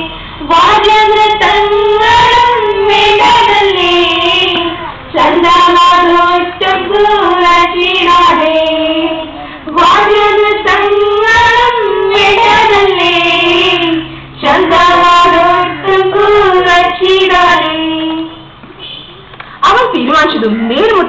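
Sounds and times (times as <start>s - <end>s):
girl singing: 0.0s - 18.5s.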